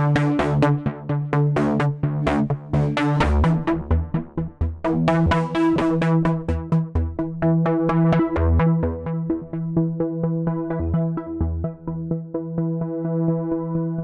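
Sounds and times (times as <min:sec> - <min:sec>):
low synth bass line: 0:00.0 - 0:14.0.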